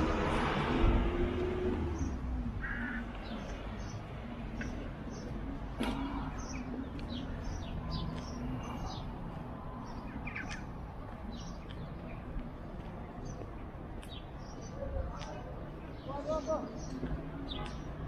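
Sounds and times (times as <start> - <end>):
street traffic hum: 0.0 - 18.0
small birds chirping: 1.7 - 18.0.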